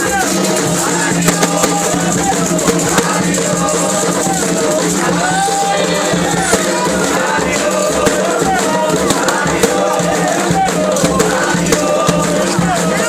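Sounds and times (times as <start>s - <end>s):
people chanting: 0.0s - 13.0s
shaken rattles and percussion: 0.0s - 13.0s.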